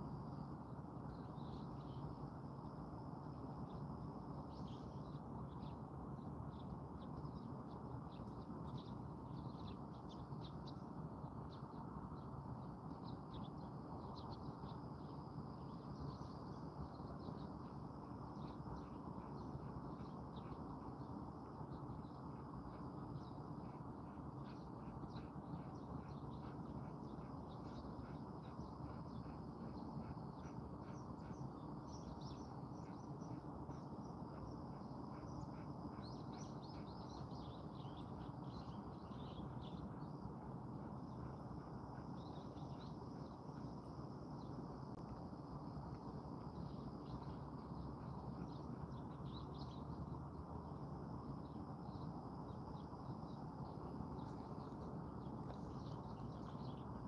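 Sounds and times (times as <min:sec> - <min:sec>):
small birds chirping: 0:03.7 - 0:57.0.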